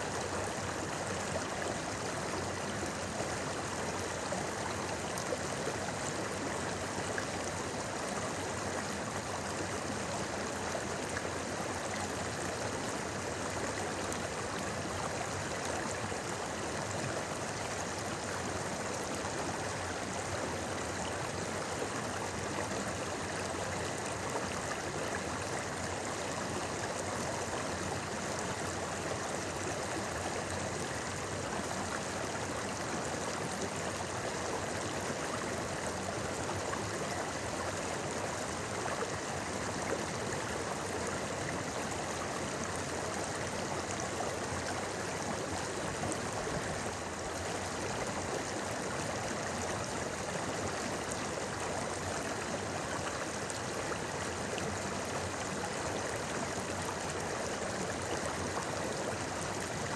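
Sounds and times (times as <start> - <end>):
river babbling: 0.0 - 59.9.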